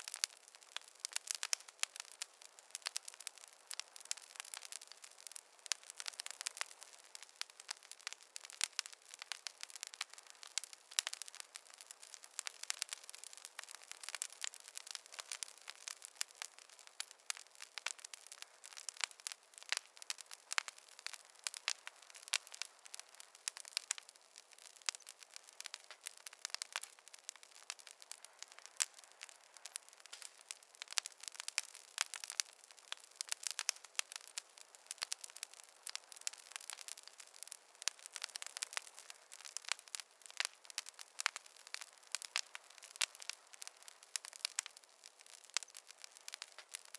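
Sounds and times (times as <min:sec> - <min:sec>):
campfire crackling: 0:00.0 - 0:46.9.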